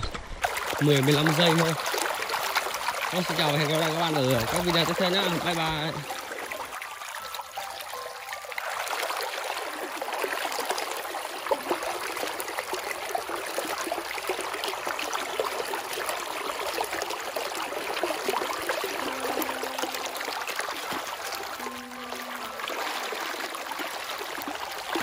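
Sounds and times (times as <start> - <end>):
stream babbling over rocks: 0.0 - 25.0.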